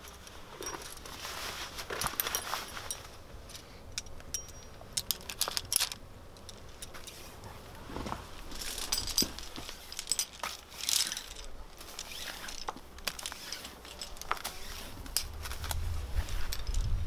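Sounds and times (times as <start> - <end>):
carabiners clinking and jangling: 0.0 - 7.3, 8.5 - 17.0.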